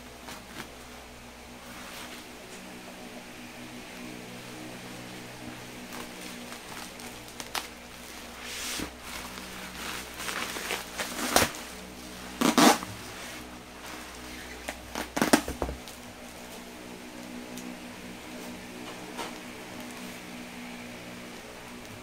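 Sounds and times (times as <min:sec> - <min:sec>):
bubble wrap rustling and crinkling: 0:00.0 - 0:03.1, 0:04.0 - 0:22.0
steady low hum: 0:00.0 - 0:22.0.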